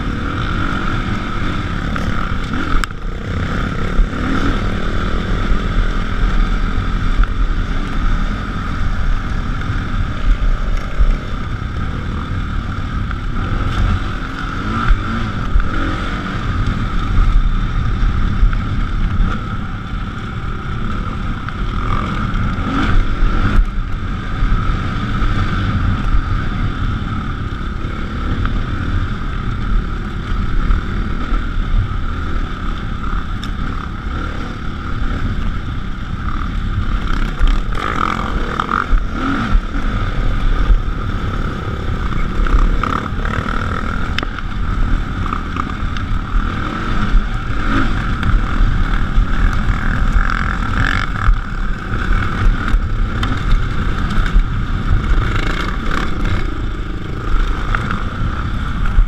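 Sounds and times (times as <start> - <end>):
dirt bike engine running: 0.0 - 59.0
wind noise on microphone: 0.0 - 59.0.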